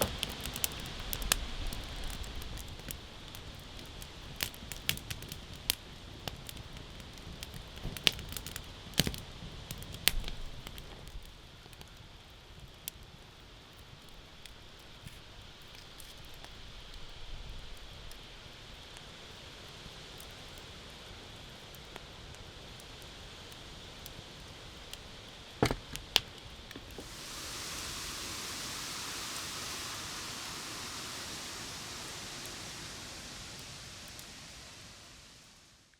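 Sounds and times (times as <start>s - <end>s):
steady rushing hiss: 0.0s - 25.6s, 26.2s - 35.9s
campfire crackling: 0.0s - 35.9s.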